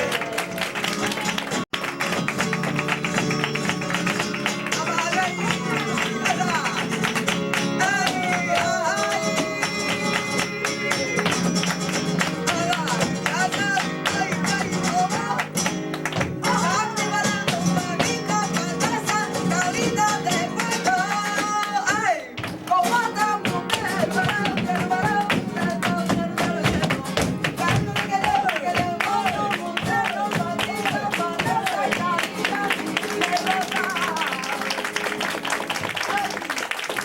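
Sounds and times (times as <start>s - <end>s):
flamenco guitar: 0.0s - 37.0s.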